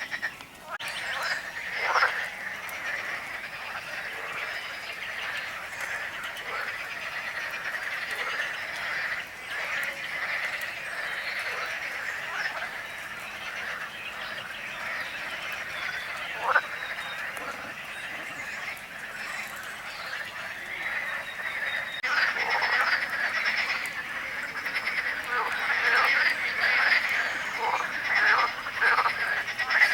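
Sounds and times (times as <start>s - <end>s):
frogs croaking: 0.0s - 29.9s.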